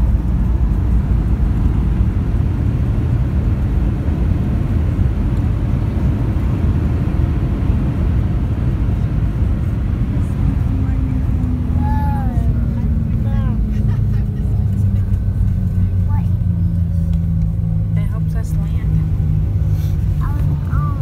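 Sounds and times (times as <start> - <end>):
airliner cabin low rumble: 0.0 - 21.0.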